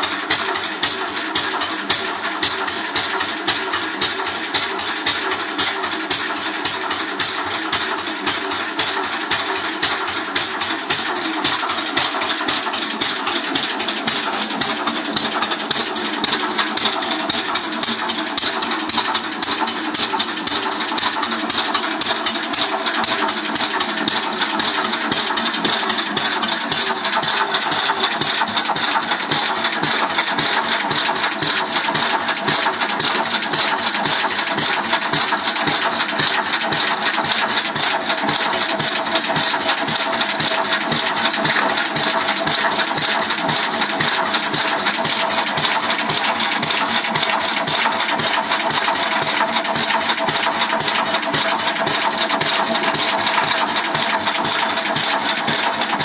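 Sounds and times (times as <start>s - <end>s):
small petrol engine idling: 0.0s - 56.0s.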